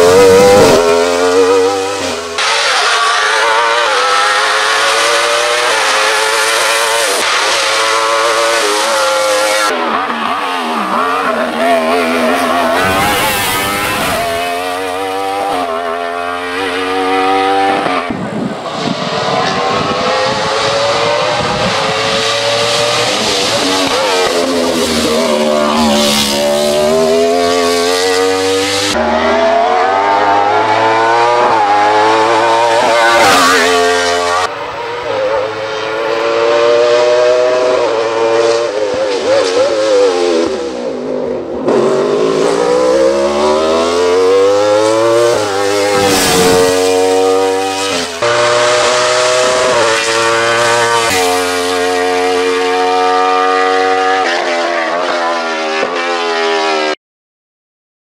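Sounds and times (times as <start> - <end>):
race car engine revving high: 0.0 - 57.0.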